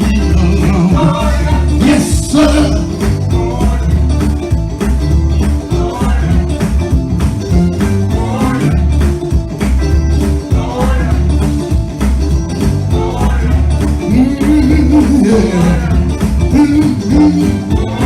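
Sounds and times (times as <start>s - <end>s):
gospel band music: 0.0s - 18.0s.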